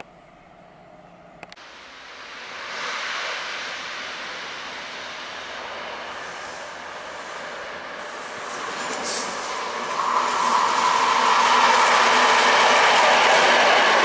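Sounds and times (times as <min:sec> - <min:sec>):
diesel locomotive passing: 0:01.6 - 0:14.0
train wheels on rails: 0:01.6 - 0:14.0.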